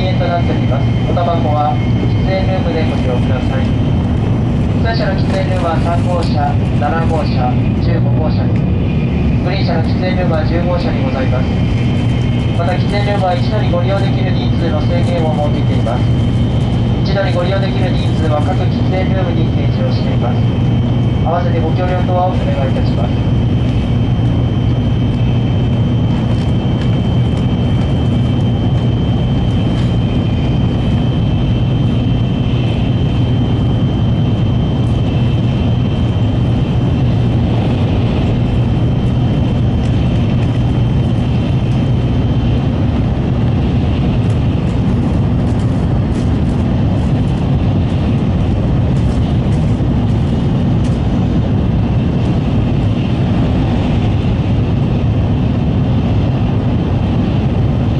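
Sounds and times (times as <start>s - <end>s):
faint high whine: 0.0s - 57.9s
train rumble inside passenger car: 0.0s - 57.9s.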